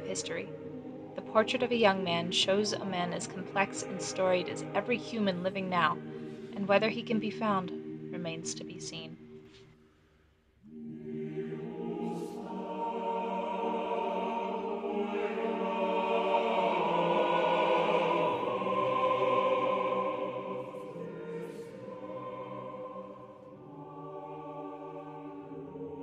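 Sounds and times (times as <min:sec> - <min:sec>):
choir singing sustained chords: 0:00.0 - 0:09.6, 0:10.5 - 0:26.0.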